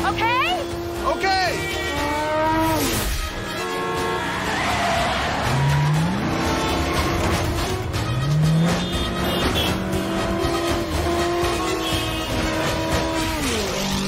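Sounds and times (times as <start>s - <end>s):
film score music: 0.0s - 14.0s
road noise: 0.0s - 14.0s
vehicle engines revving: 0.0s - 14.0s.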